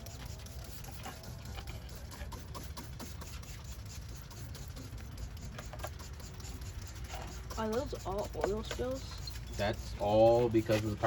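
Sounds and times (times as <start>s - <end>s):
tools clicking and tapping: 0.0s - 11.0s.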